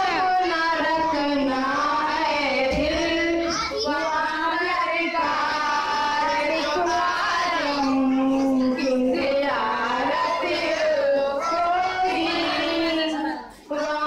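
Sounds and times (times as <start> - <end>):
girl singing devotional song: 0.0 - 14.0.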